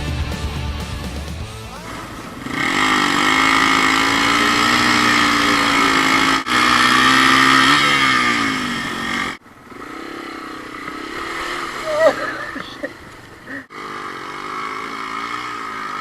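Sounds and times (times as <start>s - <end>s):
motorcycle engine revving hard: 1.8s - 16.0s.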